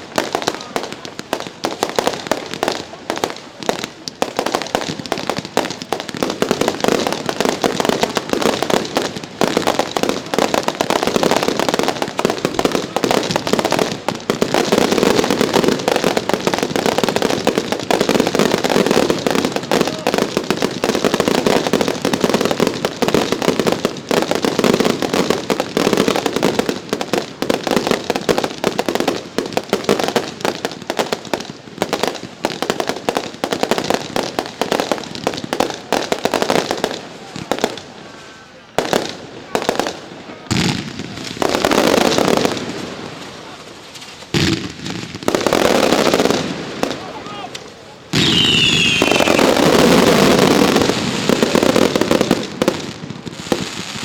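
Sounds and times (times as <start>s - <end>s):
fireworks bursts and crackling: 0.0s - 54.0s.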